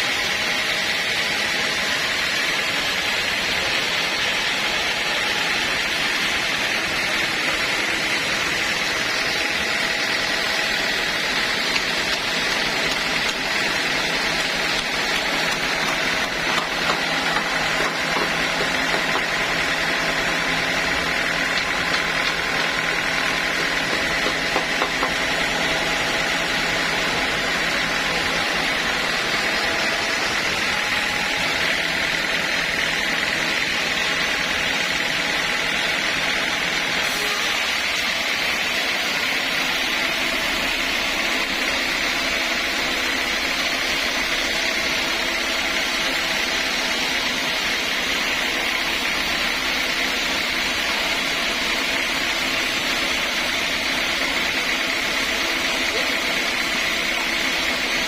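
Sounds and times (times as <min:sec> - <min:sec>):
sawmill machinery with high whine: 0:00.0 - 0:58.0.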